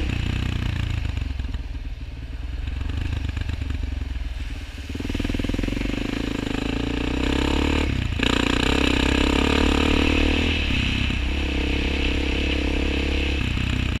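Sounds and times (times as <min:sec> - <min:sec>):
quad bike engine revving: 0:00.0 - 0:01.6, 0:02.6 - 0:04.0, 0:05.0 - 0:14.0.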